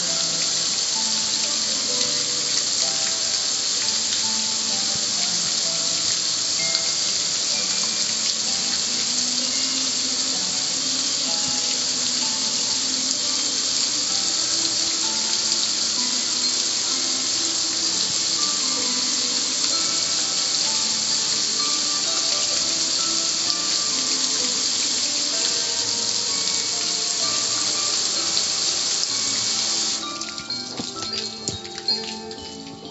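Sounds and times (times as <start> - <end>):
hose spraying water on metal grill: 0.0 - 32.9
music: 0.0 - 32.9.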